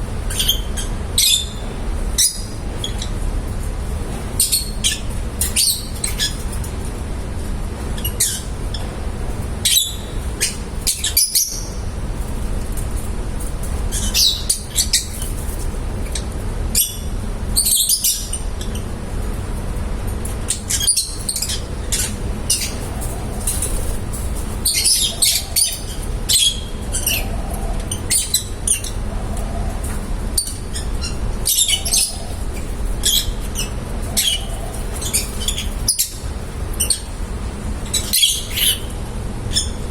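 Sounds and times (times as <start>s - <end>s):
lovebirds chirping and squawking: 0.0s - 3.2s, 4.1s - 6.6s, 7.9s - 12.5s, 13.6s - 19.4s, 20.3s - 39.8s
steady low hum: 0.0s - 39.9s.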